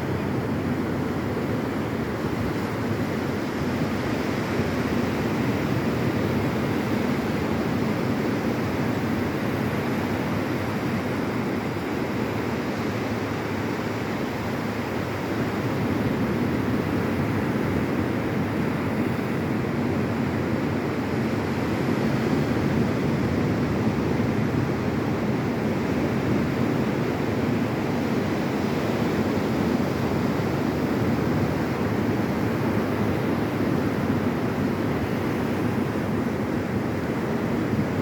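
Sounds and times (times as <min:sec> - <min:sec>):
waves breaking on beach: 0:00.0 - 0:38.0.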